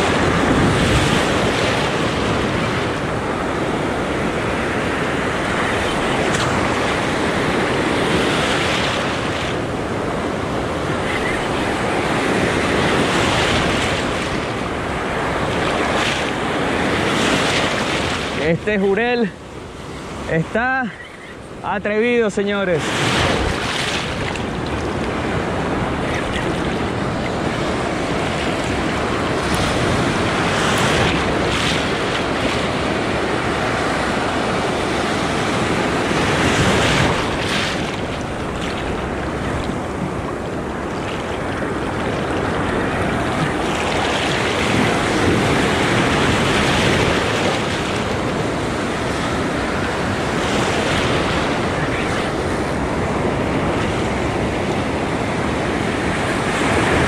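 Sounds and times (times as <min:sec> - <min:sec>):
wind buffeting microphone: 0:00.0 - 0:21.7, 0:22.7 - 0:57.0
ocean surf breaking: 0:00.0 - 0:57.0.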